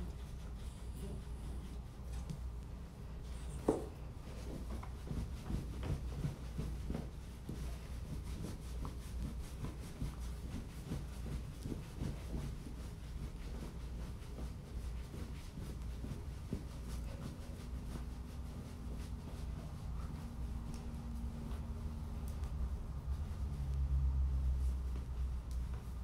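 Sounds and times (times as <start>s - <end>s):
towel rubbing wet fur: 0.0s - 26.0s.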